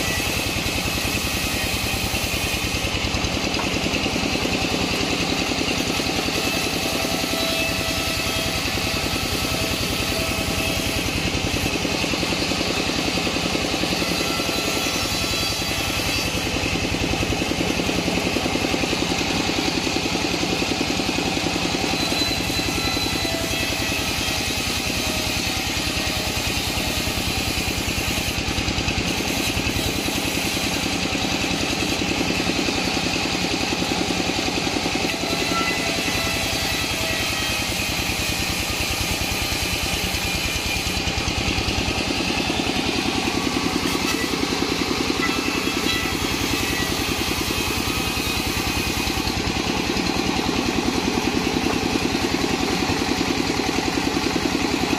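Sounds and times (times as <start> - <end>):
sawmill saw droning: 0.0 - 54.9.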